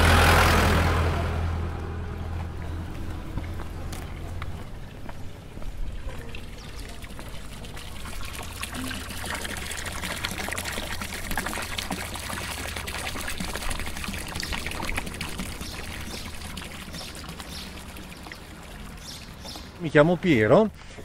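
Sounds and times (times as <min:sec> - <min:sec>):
water pouring and splashing: 0:02.9 - 0:21.0.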